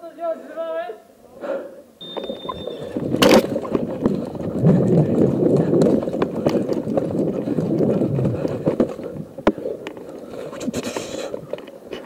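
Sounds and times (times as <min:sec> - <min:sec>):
running footsteps on dirt: 0:02.0 - 0:12.0.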